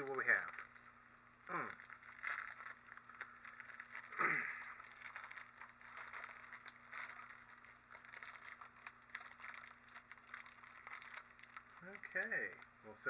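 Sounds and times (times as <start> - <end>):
plastic wrapper tearing and crinkling: 0.0 - 13.0.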